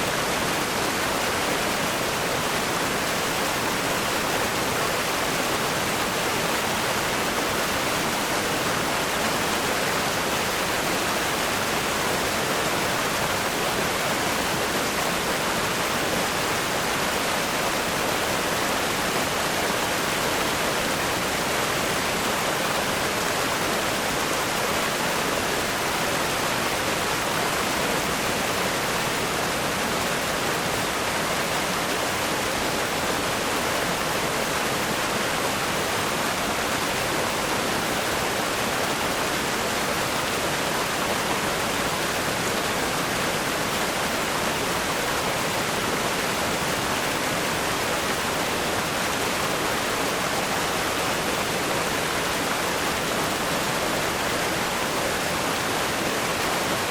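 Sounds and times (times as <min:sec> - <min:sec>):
river rapids rushing over rocks: 0:00.0 - 0:56.9.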